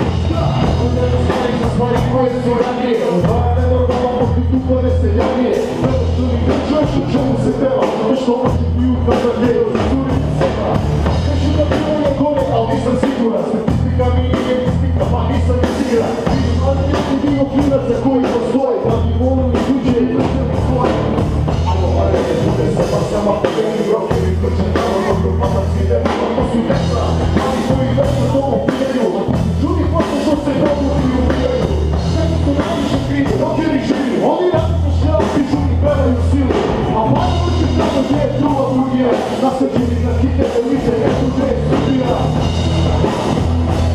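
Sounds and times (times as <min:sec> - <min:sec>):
person rapping: 0:00.0 - 0:43.1
rock band playing: 0:00.0 - 0:43.9.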